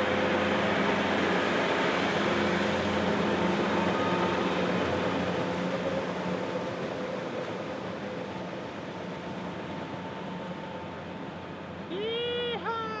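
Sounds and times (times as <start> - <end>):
tractor engine running under load: 0.0 - 11.9
water and mud churning: 0.0 - 13.0.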